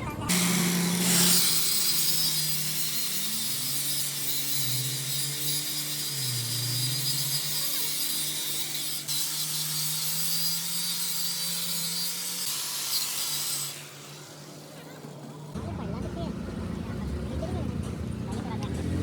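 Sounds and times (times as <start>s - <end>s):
power tool motor hum: 0.3s - 15.5s
hissing metal grinding: 0.3s - 15.6s.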